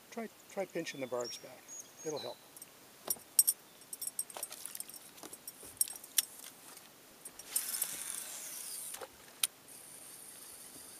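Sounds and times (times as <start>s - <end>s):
line running off reel hiss: 0.0s - 10.9s.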